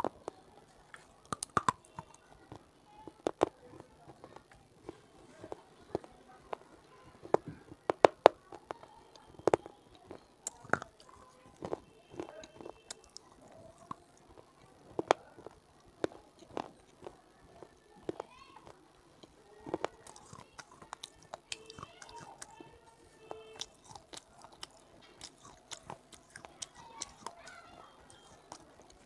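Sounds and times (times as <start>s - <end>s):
chewing hard clay crunches: 0.0s - 29.0s.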